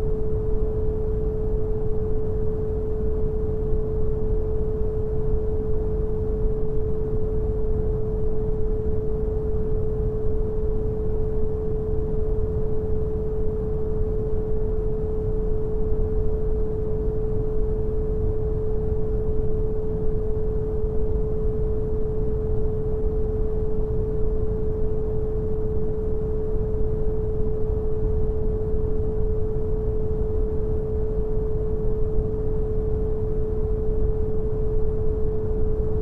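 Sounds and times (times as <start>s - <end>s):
pure steady tone: 0.0s - 36.0s.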